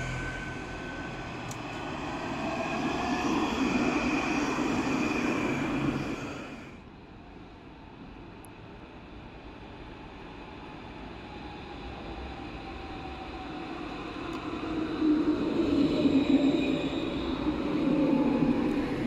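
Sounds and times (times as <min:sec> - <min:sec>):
tram passing: 0:00.0 - 0:19.0.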